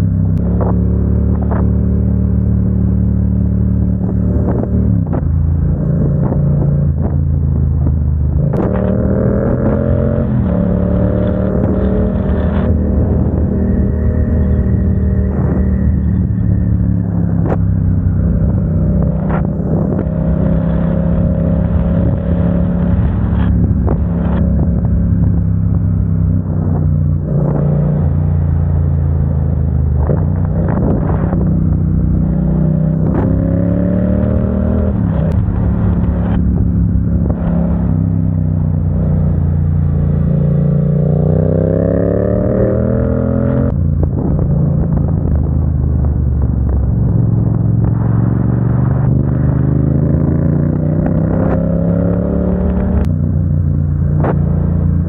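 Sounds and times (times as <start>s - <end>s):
vehicle engine shifting gears: 0.0s - 55.0s.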